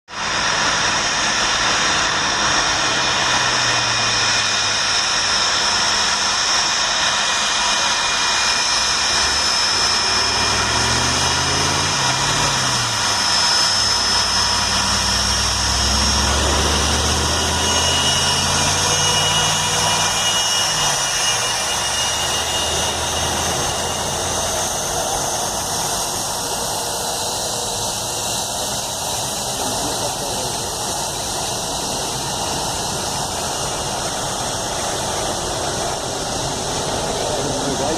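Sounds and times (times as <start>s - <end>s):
jet engines whining: 0.1s - 37.9s.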